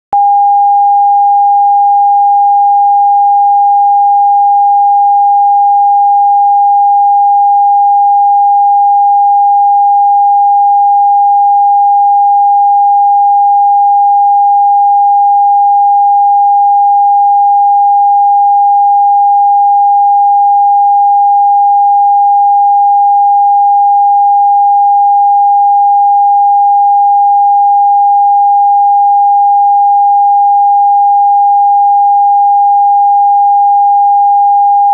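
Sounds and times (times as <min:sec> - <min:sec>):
pure sine tone: 0:00.1 - 0:34.9.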